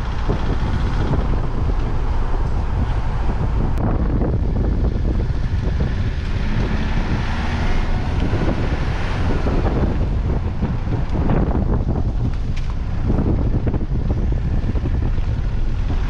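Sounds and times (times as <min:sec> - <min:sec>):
car rumbling on dirt road: 0:00.0 - 0:16.0
wind buffeting microphone: 0:00.0 - 0:16.0.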